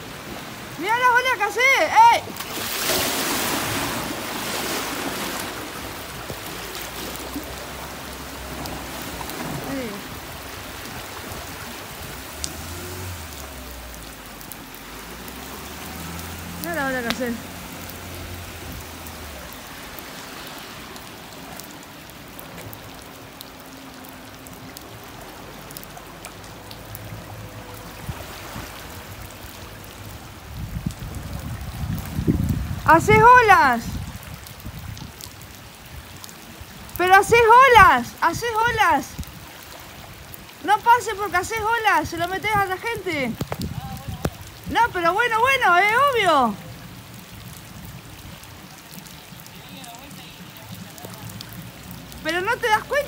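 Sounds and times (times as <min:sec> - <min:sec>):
floodwater rushing and splashing: 0:00.0 - 0:53.0
rain falling: 0:00.0 - 0:53.0.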